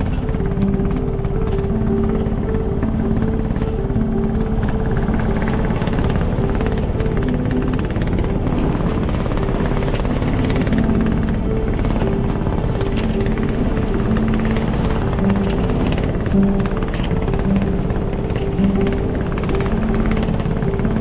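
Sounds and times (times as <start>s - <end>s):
background music: 0.0s - 21.0s
fast-pulsing rumble: 0.0s - 21.0s.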